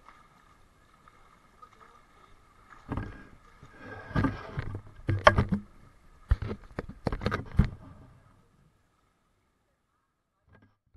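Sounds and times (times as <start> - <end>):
pool water splashing: 0.0 - 10.4.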